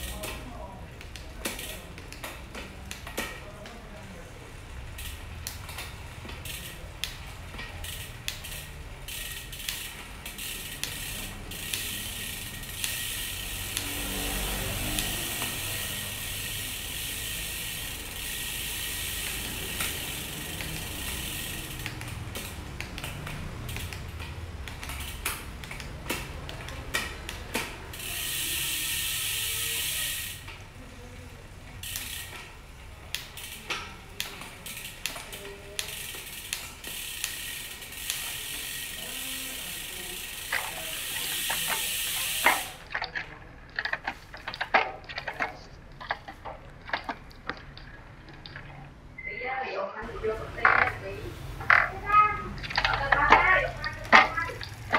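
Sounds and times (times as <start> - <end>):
bike freehub ratcheting buzz: 0.0 - 3.5, 4.6 - 48.8, 50.1 - 54.9
bike gear shifter clicks: 5.0 - 30.7, 31.8 - 48.9, 50.6 - 54.9.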